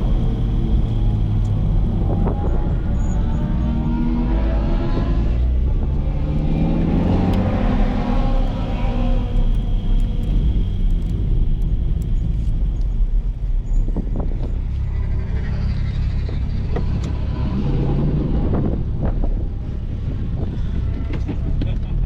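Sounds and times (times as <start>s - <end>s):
car engine low drone: 0.0s - 22.0s
road noise: 0.0s - 22.0s.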